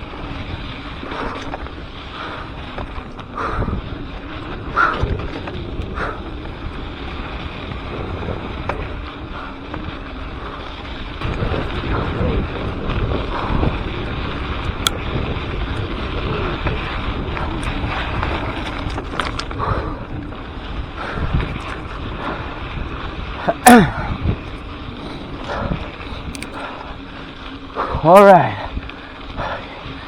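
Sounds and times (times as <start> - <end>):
bike clicks and rattles: 0.0 - 30.0
tyres rumbling on dirt: 0.0 - 30.0
wind buffeting microphone: 0.0 - 30.0.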